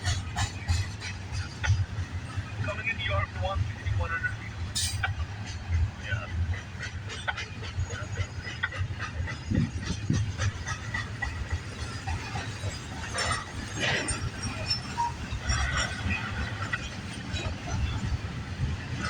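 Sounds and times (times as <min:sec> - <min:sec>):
wheels clacking over rail joints: 0:00.0 - 0:02.7, 0:04.7 - 0:19.0
train wheels rumbling on rail: 0:00.0 - 0:19.0.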